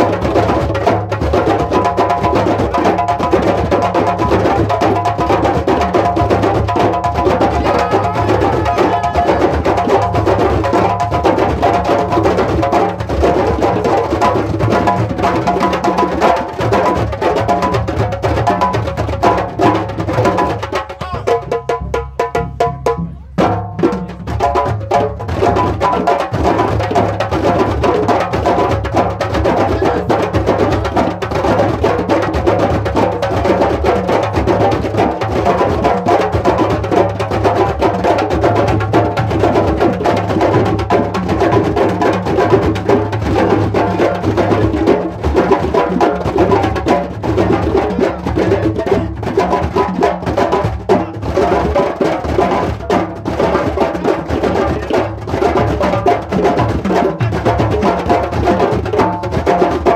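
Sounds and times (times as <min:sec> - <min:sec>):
bass drums beaten with sticks: 0:00.0 - 0:59.9
hand drums playing: 0:00.0 - 0:59.9.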